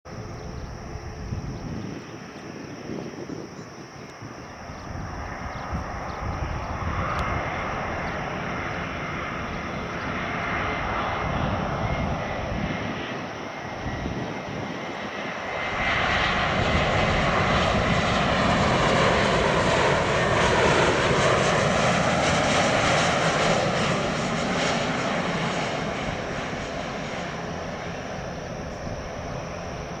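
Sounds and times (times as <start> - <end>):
jet engines with high whine: 0.1 - 30.0.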